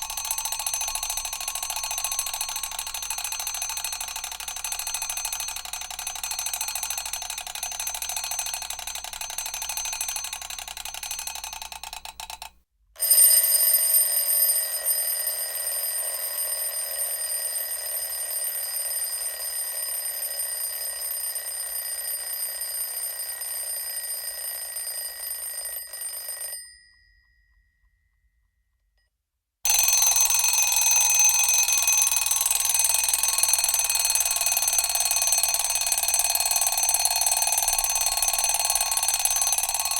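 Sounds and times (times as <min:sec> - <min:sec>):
alarm clock bell ringing: 0:00.0 - 0:28.2, 0:29.7 - 0:39.9.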